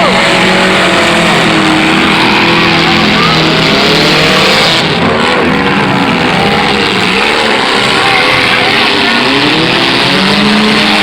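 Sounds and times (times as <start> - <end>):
car engines revving loudly: 0.0 - 11.0
voices: 0.0 - 11.0.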